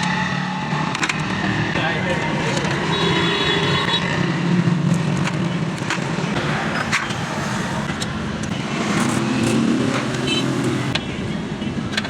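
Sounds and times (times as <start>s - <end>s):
motorcycle engine running: 0.7s - 11.9s.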